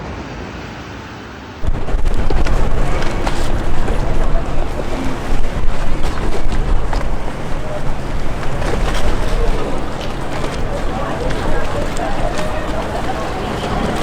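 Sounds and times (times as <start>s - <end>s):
steady outdoor noise: 1.1s - 14.0s
wind buffeting microphone: 1.6s - 14.0s.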